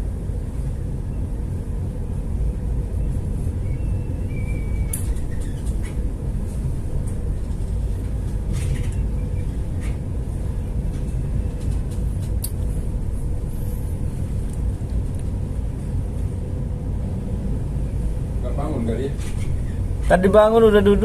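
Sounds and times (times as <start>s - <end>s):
faint constant hum: 0.0s - 21.0s
ship engine rumble: 0.0s - 21.0s.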